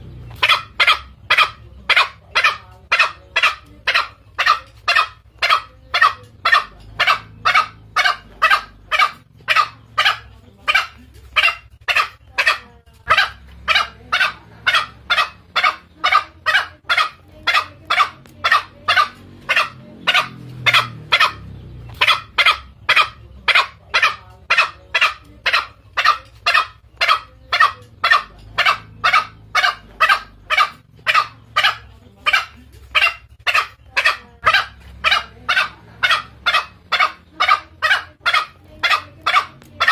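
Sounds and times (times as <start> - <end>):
junglefowl calls: 0.0 - 39.9.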